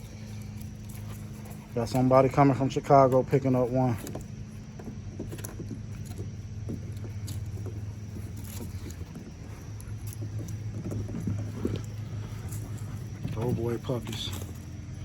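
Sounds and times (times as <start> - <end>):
light clicks and rustles: 0.0 - 15.0.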